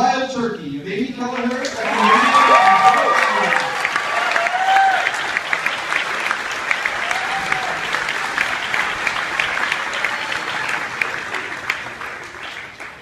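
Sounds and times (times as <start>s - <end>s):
audience applauding: 1.4s - 13.0s.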